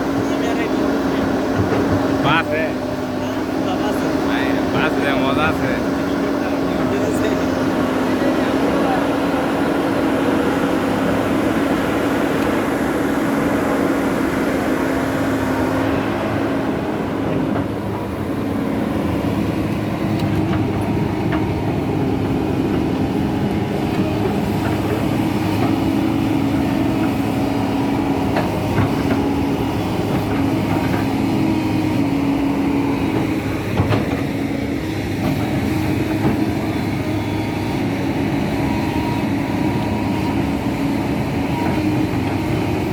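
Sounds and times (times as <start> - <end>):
heavy engine droning: 0.0 - 42.9.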